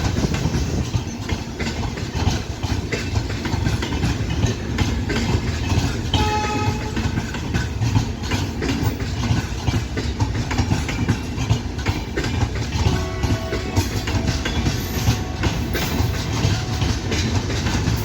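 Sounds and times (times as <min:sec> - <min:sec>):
train rumbling past: 0:00.0 - 0:18.0
wheels clacking over rail joints: 0:00.0 - 0:18.0.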